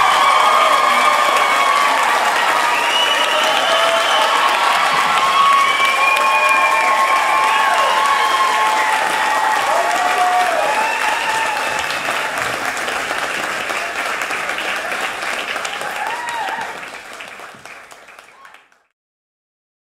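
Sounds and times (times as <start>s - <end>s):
audience applauding: 0.0s - 18.9s.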